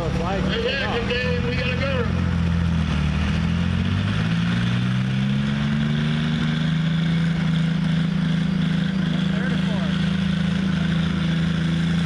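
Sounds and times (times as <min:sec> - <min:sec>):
tractor engine under full load: 0:00.0 - 0:12.0.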